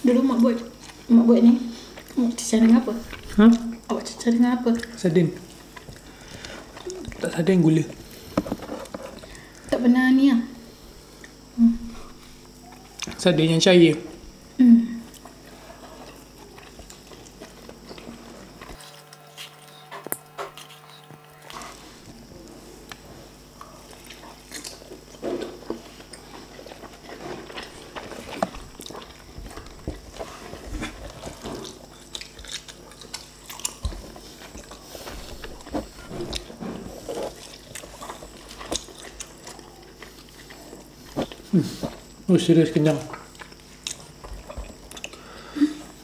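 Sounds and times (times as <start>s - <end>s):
people chewing with mouth clicks: 0.2s - 9.8s, 10.8s - 13.3s, 14.9s - 42.2s, 42.9s - 46.0s.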